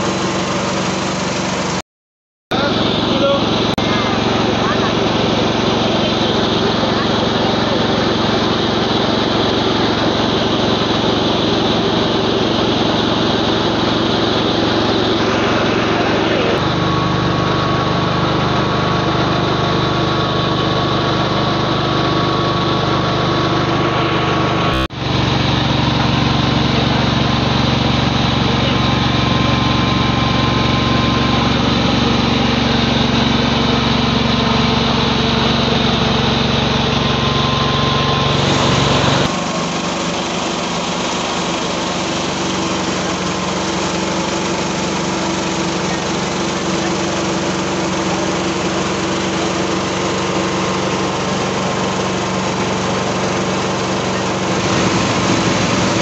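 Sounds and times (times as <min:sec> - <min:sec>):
rice pouring from chute: 0:00.0 - 0:01.8, 0:02.6 - 0:56.0
small petrol engine running: 0:00.0 - 0:01.8, 0:02.5 - 0:56.0.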